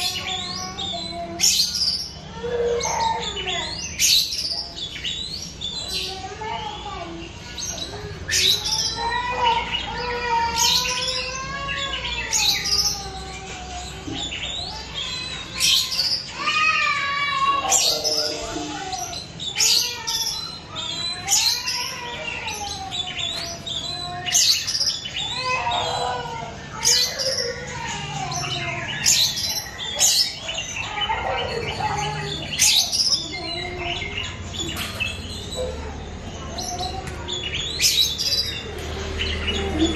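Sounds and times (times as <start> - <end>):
sharp bird calls: 0.0 - 39.9.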